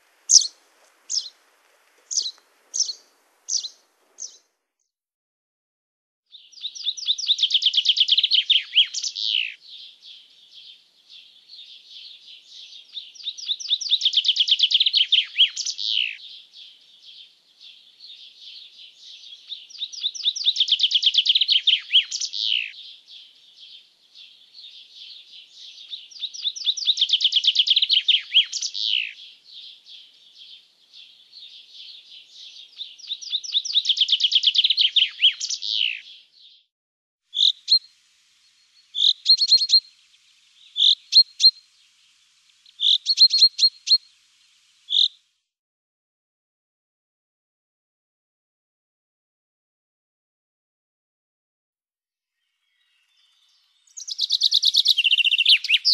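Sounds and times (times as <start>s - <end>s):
chaffinch singing: 0.3s - 1.4s, 2.1s - 4.5s, 6.3s - 36.7s, 37.3s - 45.2s, 52.4s - 55.9s.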